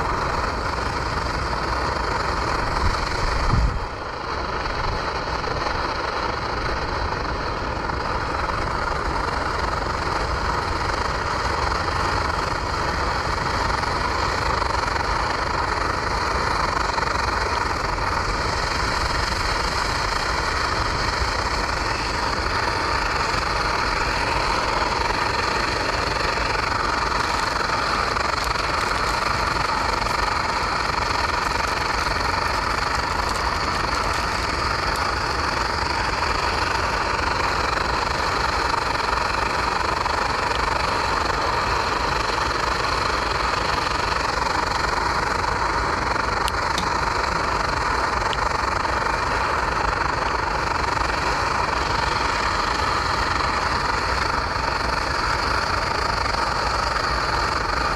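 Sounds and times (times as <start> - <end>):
gas stove burning: 0.0 - 57.9.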